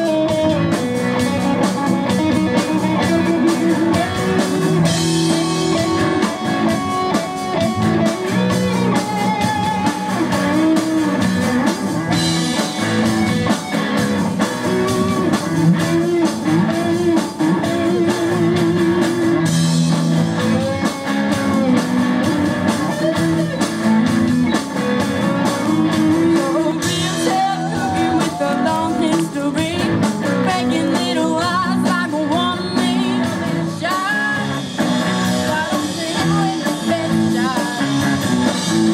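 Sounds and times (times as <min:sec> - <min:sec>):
electric guitar: 0:00.0 - 0:38.9
rock band playing live: 0:00.0 - 0:38.9.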